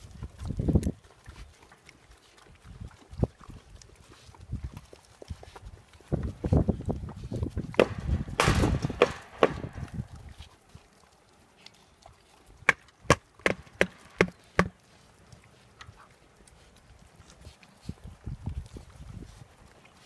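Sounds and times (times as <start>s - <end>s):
animals crunching dry bread: 0.0s - 20.0s.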